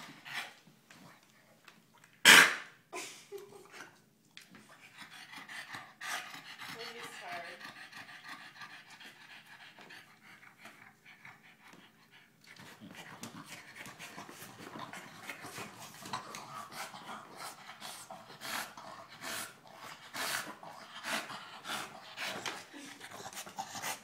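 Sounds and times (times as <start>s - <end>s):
dog panting: 4.6s - 24.0s.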